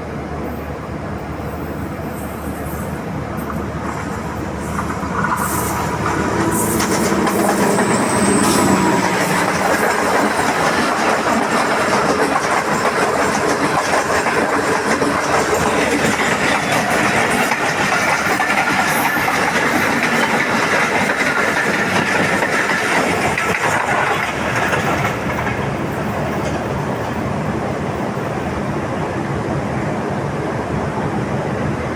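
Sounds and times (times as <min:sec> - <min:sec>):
train wheels clattering over rails: 0:01.7 - 0:28.8.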